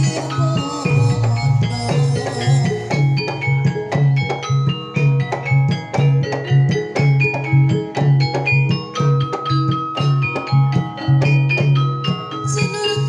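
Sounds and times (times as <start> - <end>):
gamelan music: 0.0 - 13.0.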